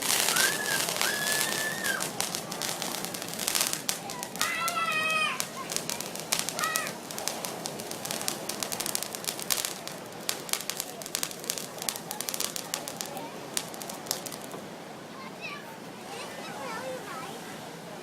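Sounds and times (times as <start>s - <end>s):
fireworks crackling and popping: 0.0s - 14.8s.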